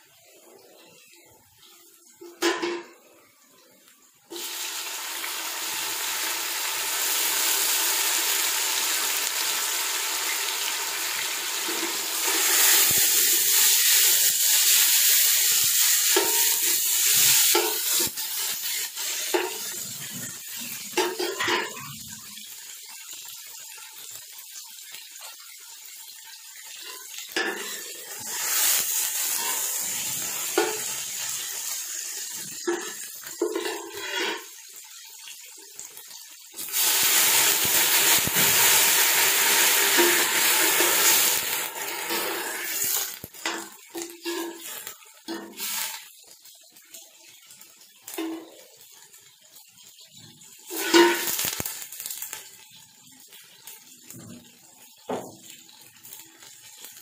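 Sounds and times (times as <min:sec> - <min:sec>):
onions sizzling in hot oil: 0:04.2 - 0:57.0.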